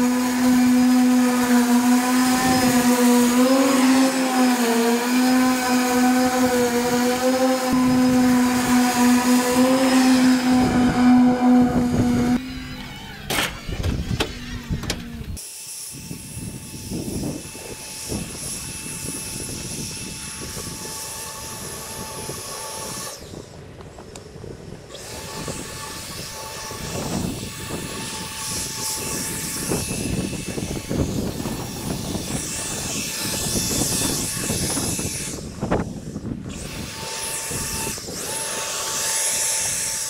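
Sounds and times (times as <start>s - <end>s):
electric motor whining: 0.0s - 40.0s.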